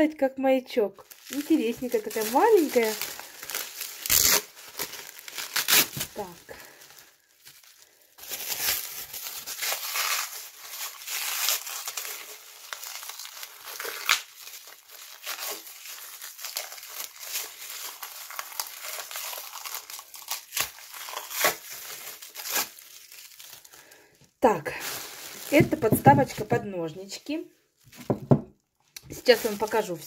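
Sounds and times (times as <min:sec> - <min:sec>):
plastic wrap crinkling: 0:00.8 - 0:30.0.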